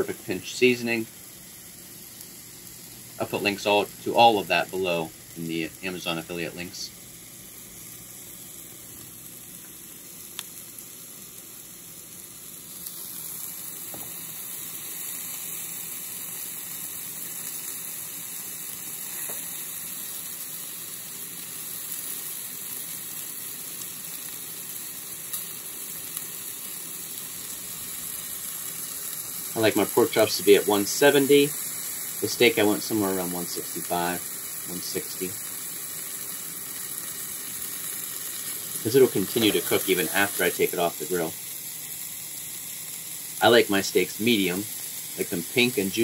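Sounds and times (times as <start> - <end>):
meat sizzling on a grill: 0.0 - 46.0.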